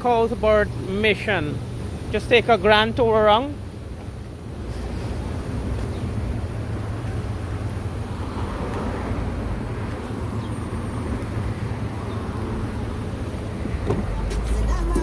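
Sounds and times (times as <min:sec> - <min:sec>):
street traffic: 0:00.0 - 0:15.0
vehicle engine idling: 0:00.0 - 0:15.0.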